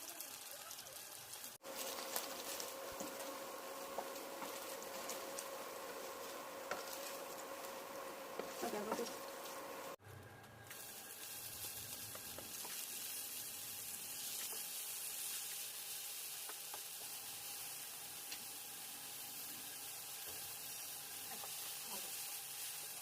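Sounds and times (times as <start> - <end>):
paneer frying in hot oil: 0.0 - 23.0.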